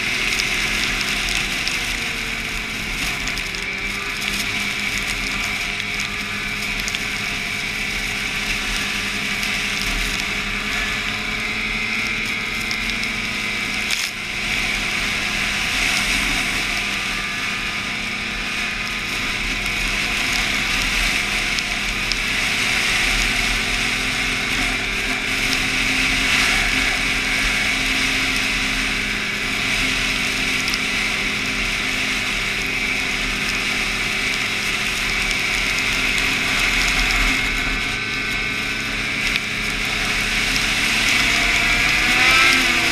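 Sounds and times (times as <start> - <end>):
snowmobile engine running: 0.0 - 42.9.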